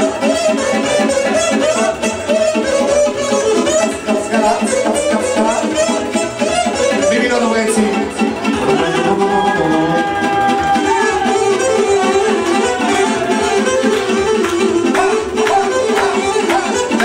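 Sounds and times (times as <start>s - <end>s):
keyboard backing: 0.0s - 17.0s
saxophone melody: 0.0s - 17.0s.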